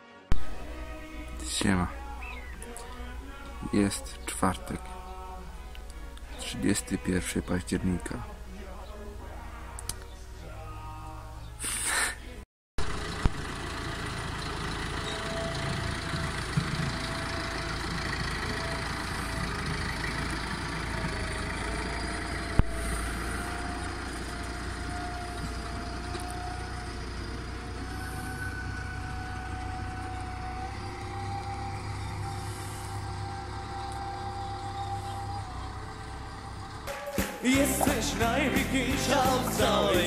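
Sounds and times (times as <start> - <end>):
tractor engine running: 0.3 - 10.5, 12.8 - 40.0.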